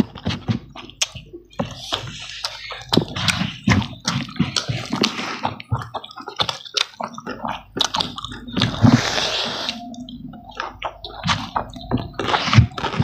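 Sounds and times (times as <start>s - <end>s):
fingers squelching rice: 0.0s - 13.0s
wet chewing and lip smacks: 0.0s - 13.0s.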